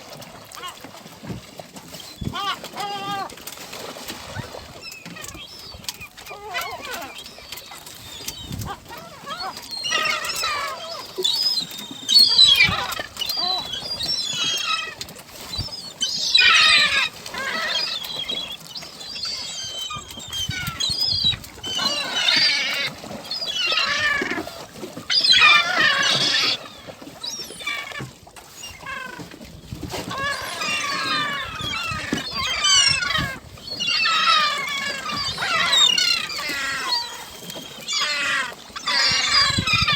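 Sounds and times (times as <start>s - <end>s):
gulls calling: 1.8s - 3.4s, 4.2s - 39.9s.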